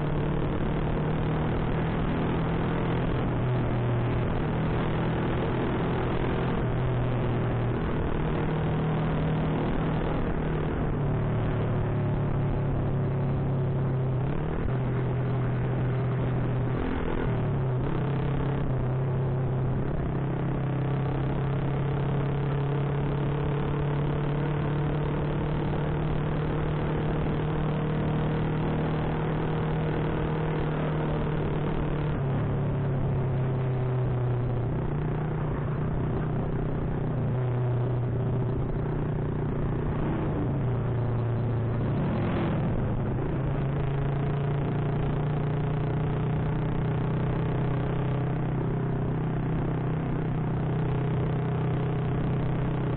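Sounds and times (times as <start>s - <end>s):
motorcycle engine running: 0.0s - 52.9s
road and wind noise: 0.0s - 52.9s.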